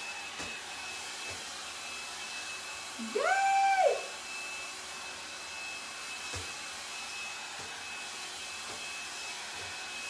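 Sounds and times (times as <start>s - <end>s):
hot air brush blowing: 0.0s - 10.0s.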